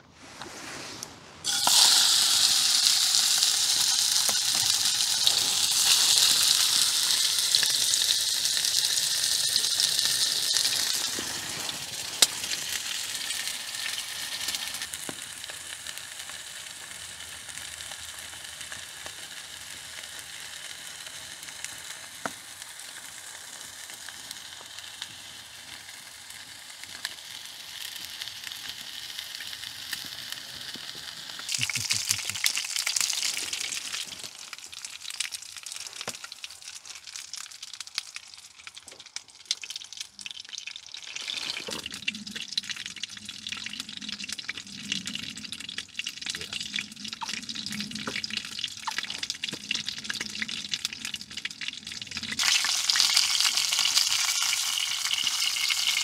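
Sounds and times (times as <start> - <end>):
burger patties sizzling in a pan: 1.4 - 42.9, 47.2 - 56.0.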